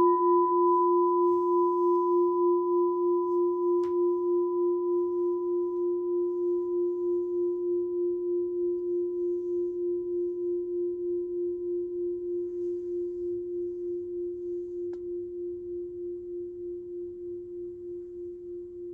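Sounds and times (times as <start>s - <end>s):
brass bowl bell ringing: 0.0s - 15.3s.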